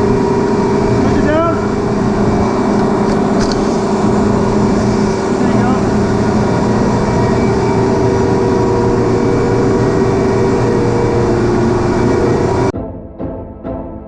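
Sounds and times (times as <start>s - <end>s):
compressor mechanical drone: 0.0s - 12.8s.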